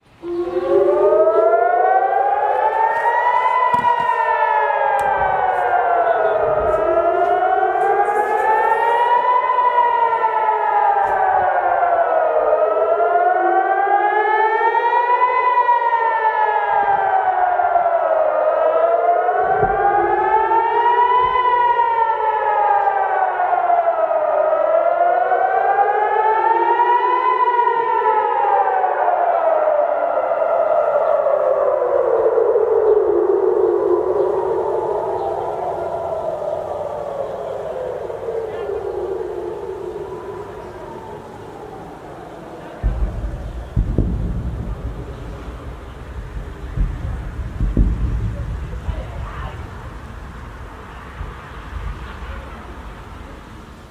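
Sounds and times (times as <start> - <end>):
rising and falling warning siren: 0.0 - 53.9.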